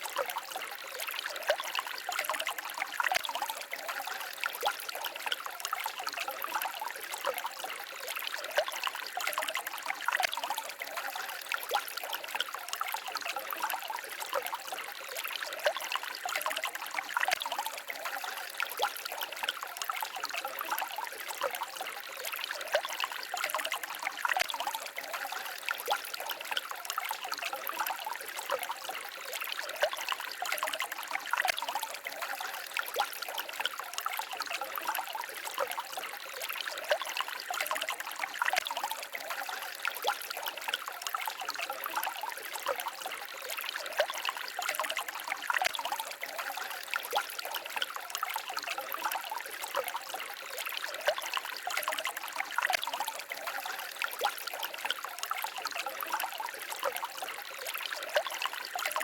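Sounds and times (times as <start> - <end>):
stream babbling and trickling: 0.0 - 59.0.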